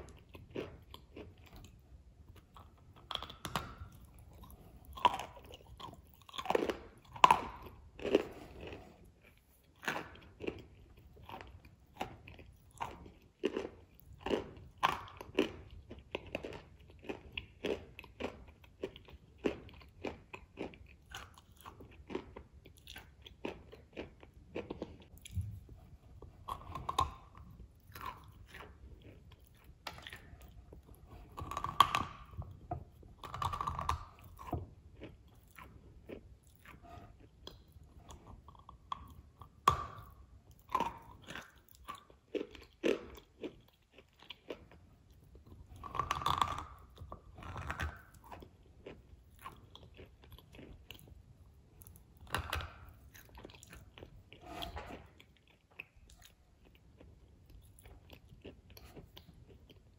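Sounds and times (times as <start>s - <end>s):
person chewing soft cookie: 0.0s - 59.9s.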